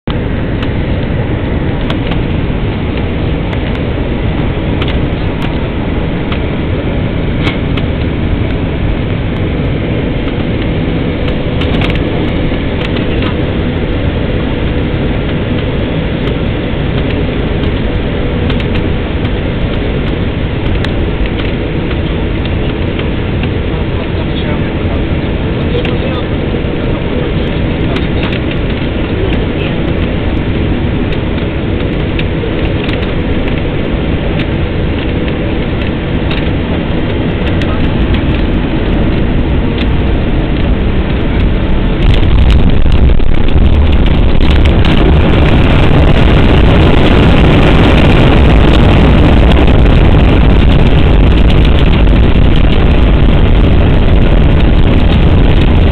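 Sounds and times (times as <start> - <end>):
jet engines and rushing airflow: 0.0 - 55.9.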